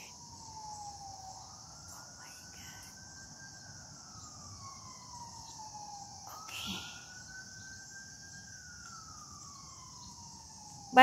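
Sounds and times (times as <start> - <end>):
faint emergency siren wailing: 0.0 - 11.0
steady high-pitched hiss: 0.0 - 11.0.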